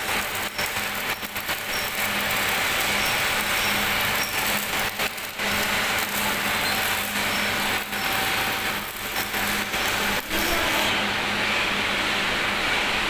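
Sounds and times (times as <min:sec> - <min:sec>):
welding arc crackling hiss: 0:00.0 - 0:11.0
faint machine hum: 0:00.0 - 0:13.0.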